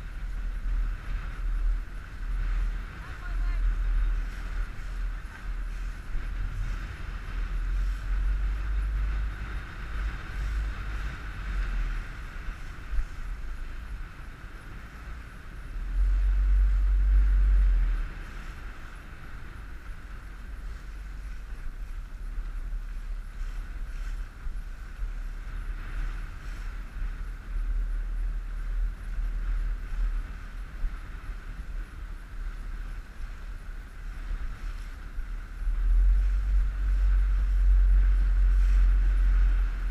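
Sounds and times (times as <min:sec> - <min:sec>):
boat running through choppy water: 0:00.0 - 0:39.9
wind buffeting microphone: 0:00.0 - 0:39.9.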